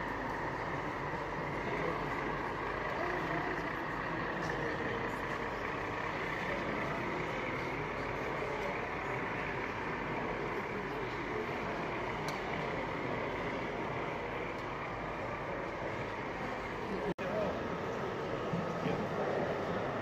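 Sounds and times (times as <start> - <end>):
crowd talking: 0.0 - 20.0.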